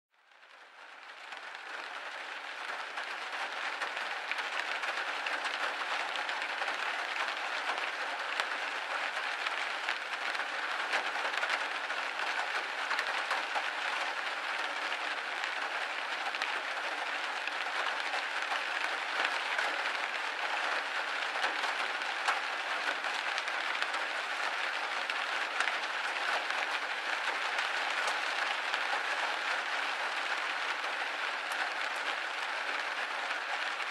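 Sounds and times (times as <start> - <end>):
rain pattering on window glass: 0.2 - 33.9.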